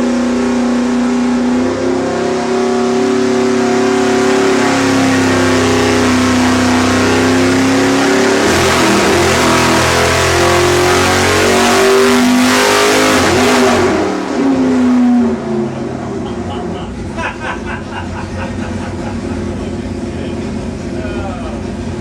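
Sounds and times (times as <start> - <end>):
car engine at full throttle: 0.0 - 22.0.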